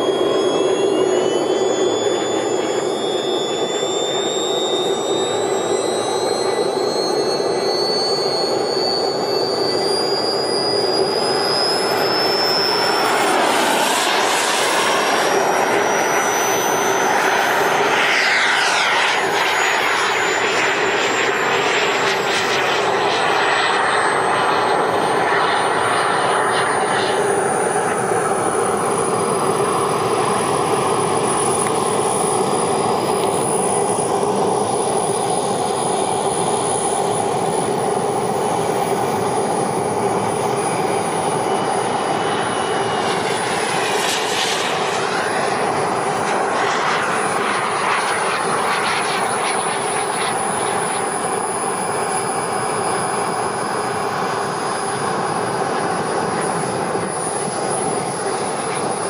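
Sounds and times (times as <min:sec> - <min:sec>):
model jet turbine whine: 0:00.0 - 0:59.0.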